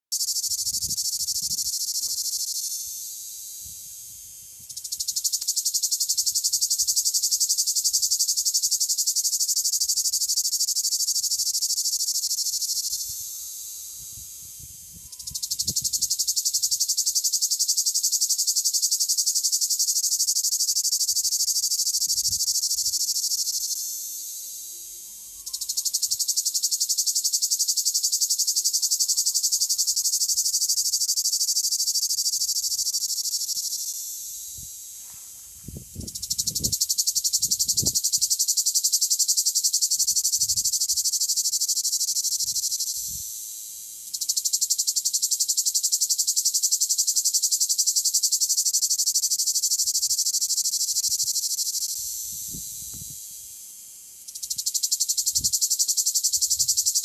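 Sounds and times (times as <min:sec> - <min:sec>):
quieter cicada buzz: 0:00.1 - 0:57.0
cicada buzzing: 0:00.2 - 0:57.0.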